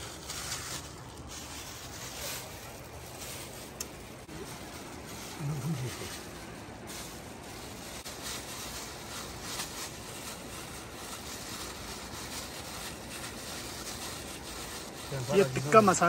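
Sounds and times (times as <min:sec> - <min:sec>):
plastic bag crinkling: 0:00.0 - 0:16.0
steady outdoor hiss: 0:00.0 - 0:16.0.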